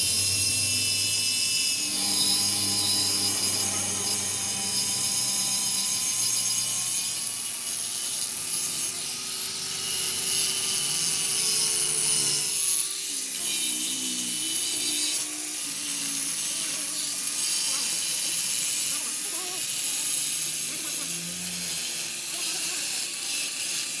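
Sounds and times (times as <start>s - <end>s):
metalworking tool whining: 0.0s - 24.0s.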